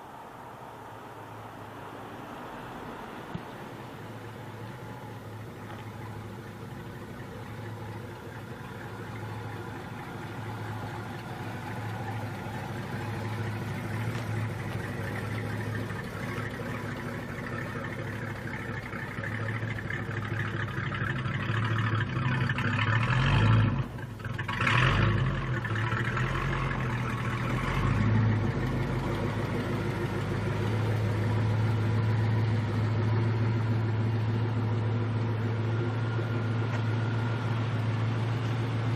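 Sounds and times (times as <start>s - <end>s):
car engine running: 3.2s - 38.9s.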